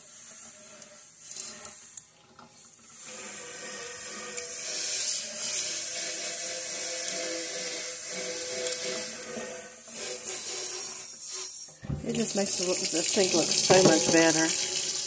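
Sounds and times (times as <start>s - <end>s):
tap water running into a steel sink: 0.0s - 15.0s.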